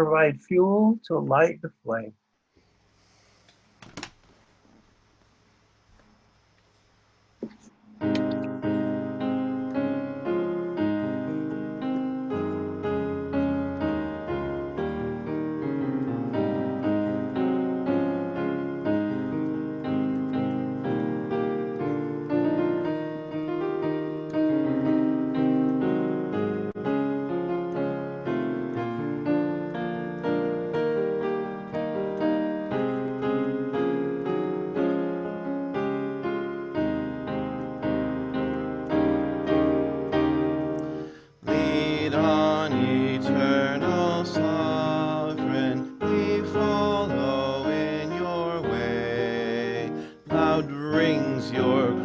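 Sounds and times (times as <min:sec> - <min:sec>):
piano playing hymn chords: 0:07.9 - 0:52.0.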